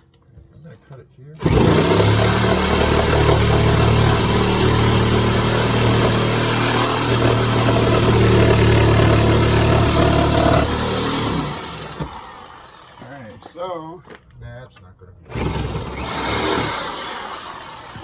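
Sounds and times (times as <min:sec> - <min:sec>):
reciprocating saw cutting wood: 0:01.4 - 0:13.5, 0:15.3 - 0:18.0.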